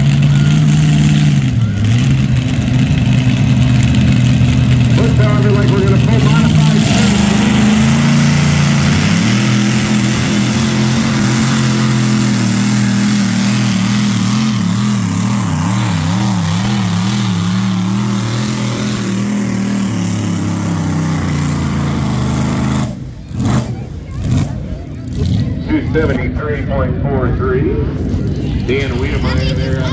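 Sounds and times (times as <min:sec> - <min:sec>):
tractor engine running hard: 0:00.0 - 0:29.9.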